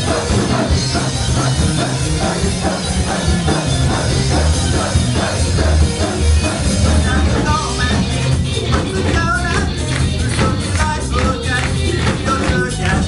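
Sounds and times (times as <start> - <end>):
drum kit beat: 0.0 - 13.0
rock band music: 0.0 - 13.0.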